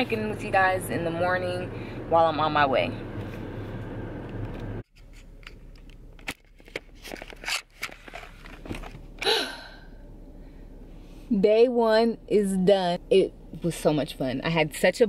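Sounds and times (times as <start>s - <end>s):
low hum in car cabin: 0.0s - 15.0s.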